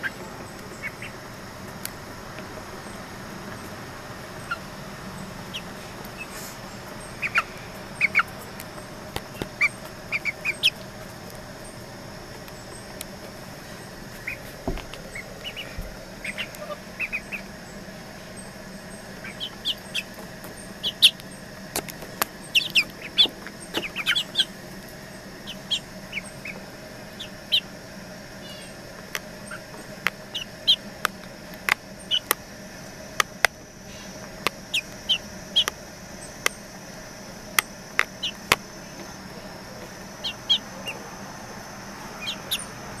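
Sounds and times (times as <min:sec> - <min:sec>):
chick peeping: 0:00.0 - 0:32.4, 0:33.1 - 0:36.7, 0:37.5 - 0:43.0
beak pecking on wooden boards: 0:00.0 - 0:43.0.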